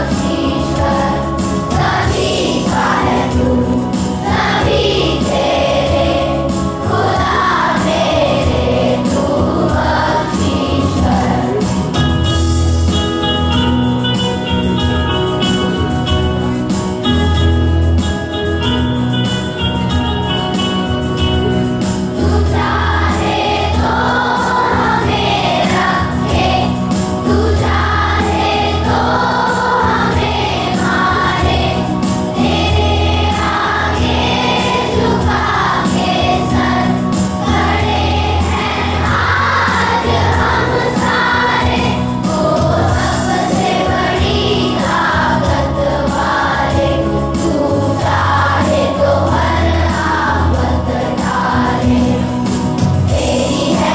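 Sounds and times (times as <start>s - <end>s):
group of voices singing: 0.0s - 12.2s, 21.9s - 53.9s
instrumental backing with bass: 0.0s - 53.9s.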